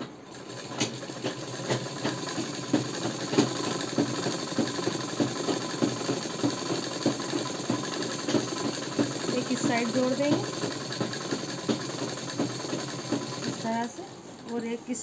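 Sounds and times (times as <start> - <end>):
sewing machine stitching: 0.0 - 15.0.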